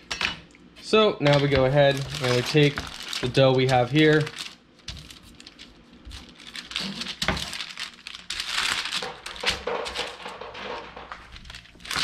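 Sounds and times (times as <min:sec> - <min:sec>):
parchment paper crinkling: 0:01.2 - 0:12.0.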